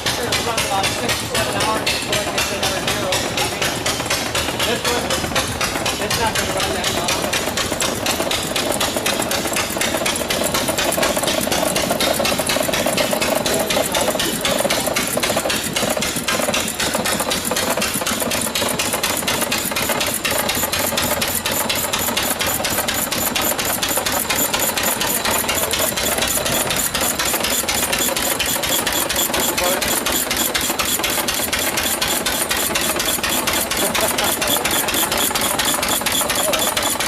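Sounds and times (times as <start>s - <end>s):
old engine clattering: 0.0s - 37.0s.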